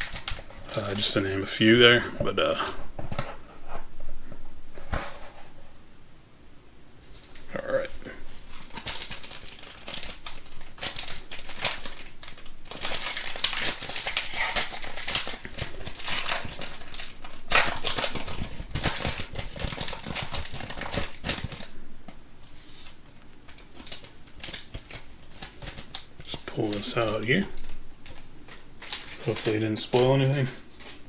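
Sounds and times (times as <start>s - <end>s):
plastic wrap crinkling and tearing: 0.0s - 2.8s, 7.2s - 21.8s, 22.4s - 31.0s.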